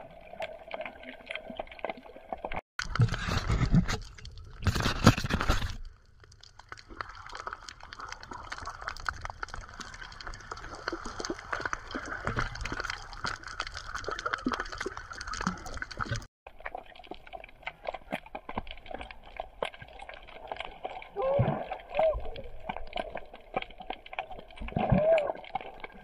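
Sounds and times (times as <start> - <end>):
low rumble of moving water: 0.0 - 26.0.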